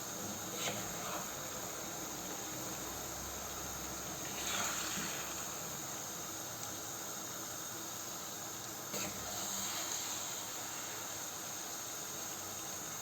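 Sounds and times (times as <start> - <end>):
seafood and vegetables sizzling: 0.0 - 13.0.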